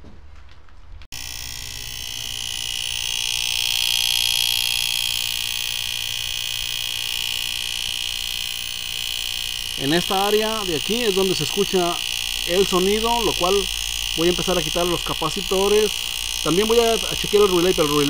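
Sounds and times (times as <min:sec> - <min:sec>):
low electrical hum: 0:00.0 - 0:18.0
high-pitched electrical buzz: 0:01.1 - 0:18.0.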